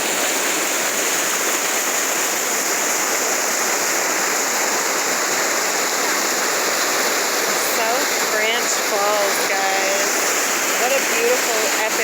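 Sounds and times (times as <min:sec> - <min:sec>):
brook flowing: 0:00.0 - 0:12.0
waterfall rushing: 0:00.0 - 0:12.0.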